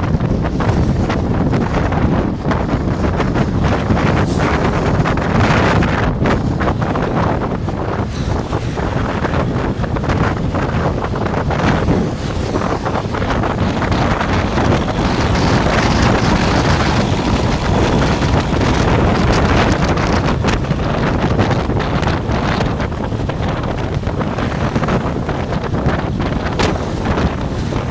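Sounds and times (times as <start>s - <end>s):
road traffic rumble: 0.0s - 27.9s
wind buffeting microphone: 0.0s - 27.9s.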